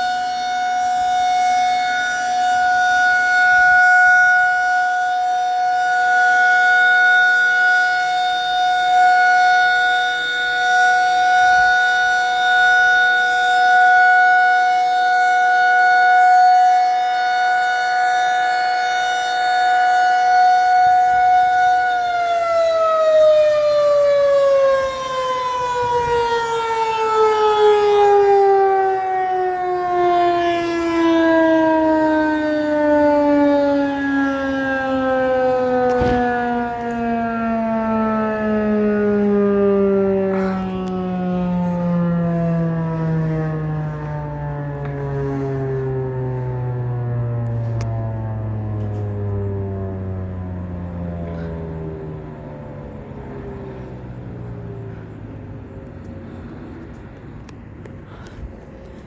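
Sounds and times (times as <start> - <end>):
warning siren alert tone: 0.0 - 55.6
siren winding down: 0.0 - 58.0.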